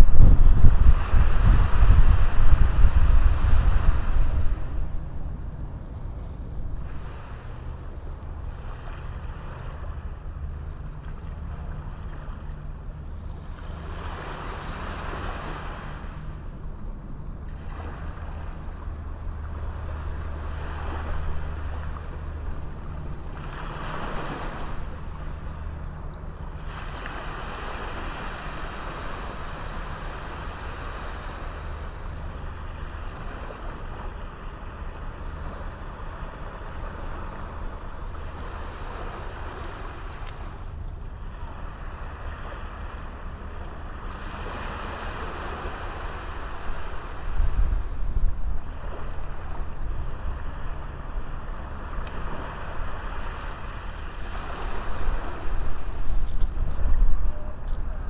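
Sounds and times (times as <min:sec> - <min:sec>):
constant low rumble: 0:00.0 - 0:58.0
sea waves breaking on beach: 0:00.0 - 0:58.0.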